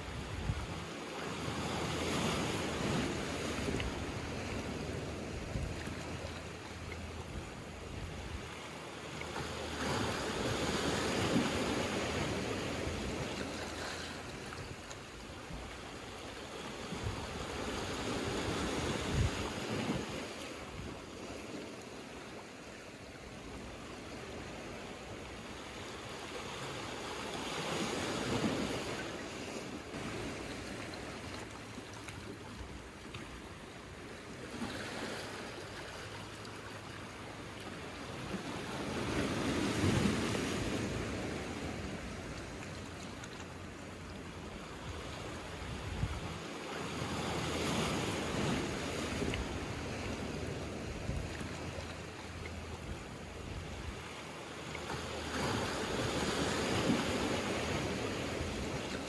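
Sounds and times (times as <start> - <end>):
sea waves washing over rocks: 0.0 - 59.0.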